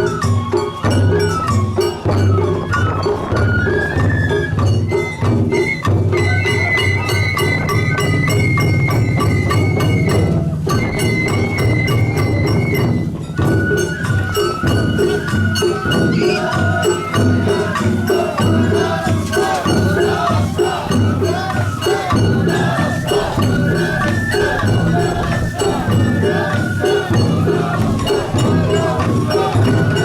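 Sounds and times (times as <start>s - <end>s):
clanging metal percussion: 0.0s - 30.0s
drums beating: 0.0s - 30.0s
high flute melody: 0.0s - 30.0s.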